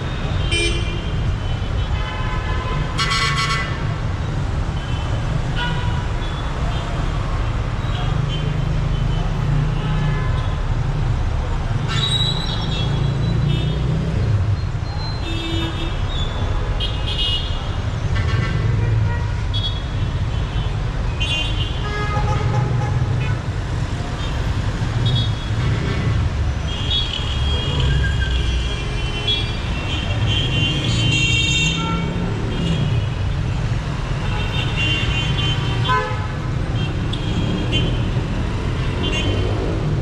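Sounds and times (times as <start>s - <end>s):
traffic engines rumbling: 0.0s - 40.0s.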